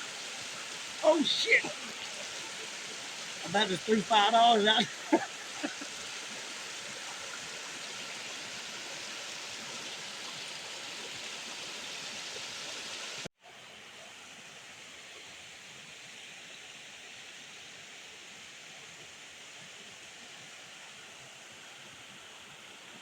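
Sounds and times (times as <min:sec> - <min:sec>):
mountain stream rushing water: 0:00.0 - 0:23.0.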